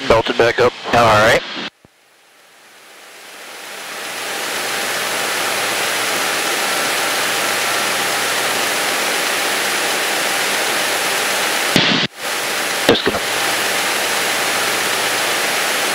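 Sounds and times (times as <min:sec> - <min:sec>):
small plane engine drone: 0:02.7 - 0:15.9.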